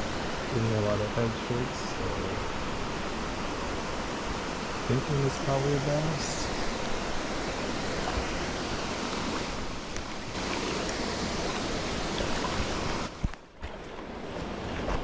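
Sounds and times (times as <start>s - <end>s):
fast-flowing river water: 0.0s - 15.0s.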